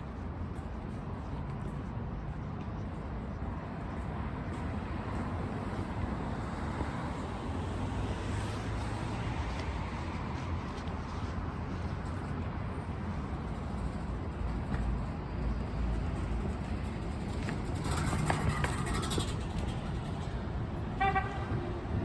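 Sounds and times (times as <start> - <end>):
city road traffic rumble: 0.0 - 22.0.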